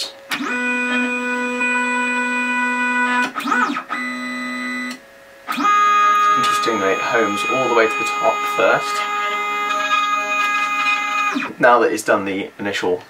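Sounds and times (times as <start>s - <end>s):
stepper motors whining: 0.3s - 11.6s.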